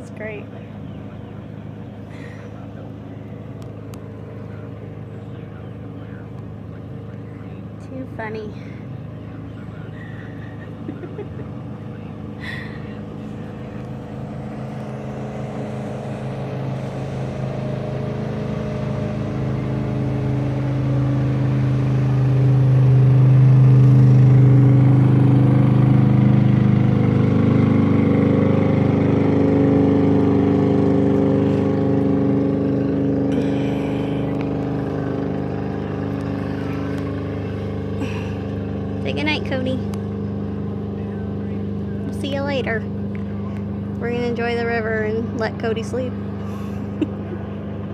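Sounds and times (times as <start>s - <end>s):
motorboat engine passing by: 0.0s - 47.9s.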